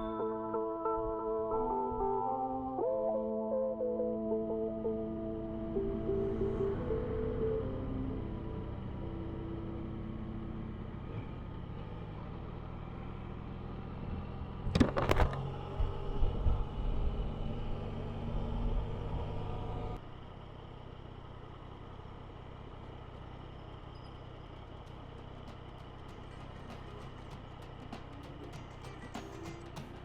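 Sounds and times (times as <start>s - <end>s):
road rumble: 3.4s - 30.0s
motorcycle engine running: 5.7s - 30.0s.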